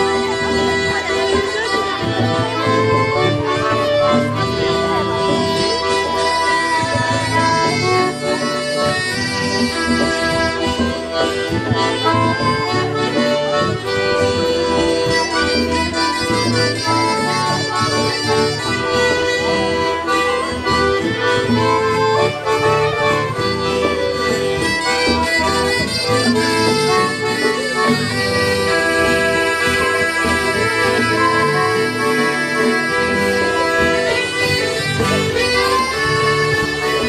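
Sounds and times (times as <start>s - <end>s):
accordion: 0.0s - 37.0s
electric guitar: 0.0s - 37.0s
harmonica: 0.0s - 37.0s
keyboard: 0.0s - 37.0s.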